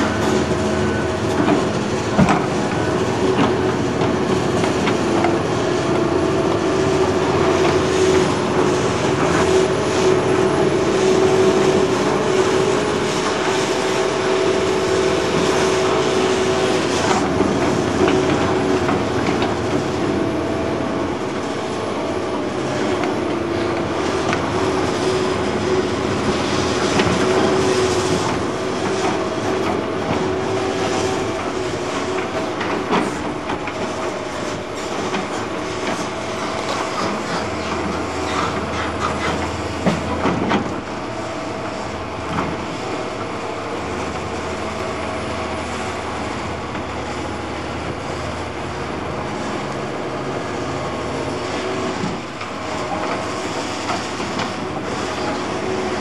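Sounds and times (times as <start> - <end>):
hydraulic whine: 0.0 - 56.0.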